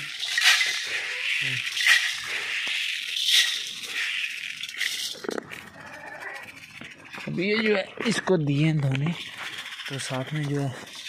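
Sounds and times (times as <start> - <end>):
dry grain pouring and stirring: 0.0 - 11.0.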